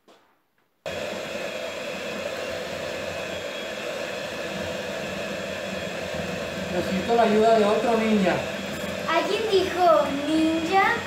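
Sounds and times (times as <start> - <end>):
electric hand mixer running: 0.9 - 11.0.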